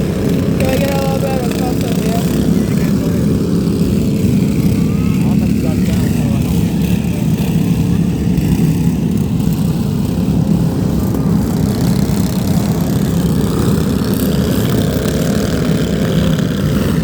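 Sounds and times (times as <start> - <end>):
vehicle engines running hard: 0.0 - 17.0.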